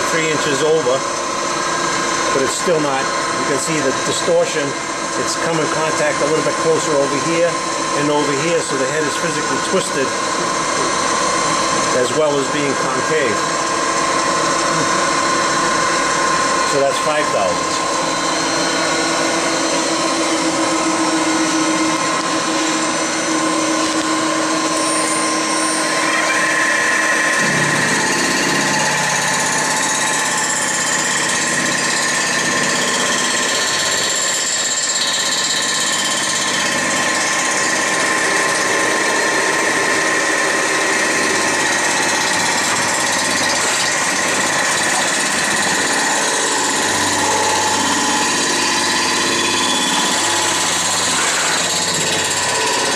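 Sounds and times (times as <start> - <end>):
high machine whine: 0.0 - 52.9
milling machine drone: 0.0 - 52.9.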